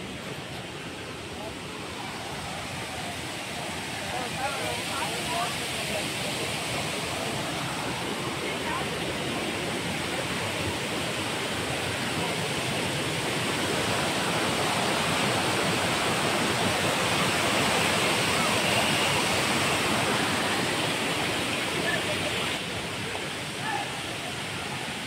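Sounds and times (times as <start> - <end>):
waterfall over rocks: 0.0 - 25.0.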